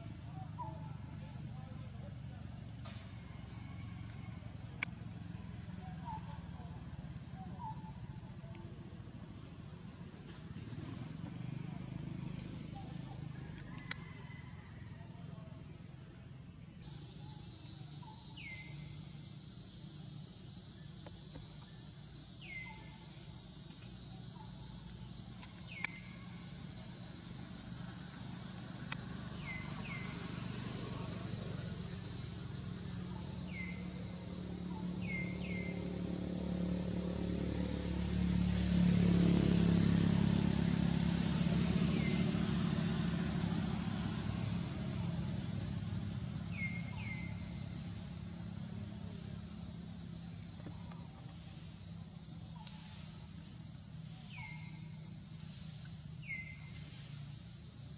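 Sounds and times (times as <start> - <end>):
passing vehicle engine rumble: 0.0 - 8.0, 8.8 - 14.8, 16.8 - 57.9
high insect drone: 0.0 - 57.9.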